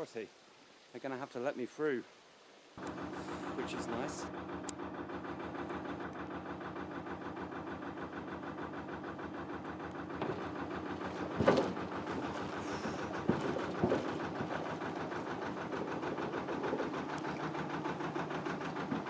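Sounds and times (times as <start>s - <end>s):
boat diesel engine idling: 2.8s - 19.0s.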